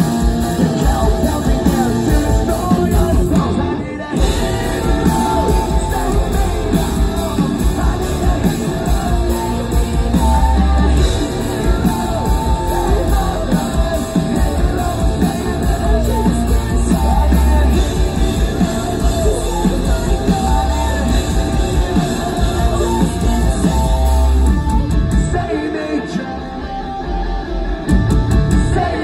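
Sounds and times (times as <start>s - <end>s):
person singing and shouting: 0.0s - 27.4s
live rock band playing: 0.0s - 29.0s.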